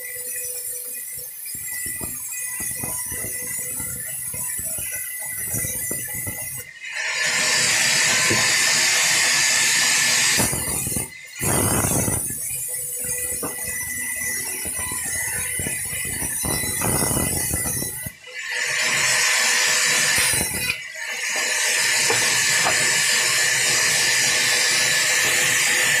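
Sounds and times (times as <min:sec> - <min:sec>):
sawmill saw cutting wood: 0:00.0 - 0:26.0.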